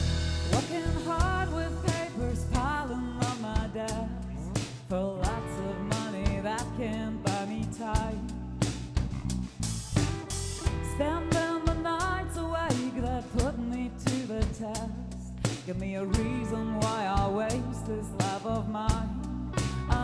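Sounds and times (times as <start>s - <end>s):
bass guitar: 0.0s - 20.0s
drum kit: 0.0s - 20.0s
electric guitar: 0.0s - 20.0s
woman singing lead vocal: 0.5s - 8.7s, 10.7s - 20.0s.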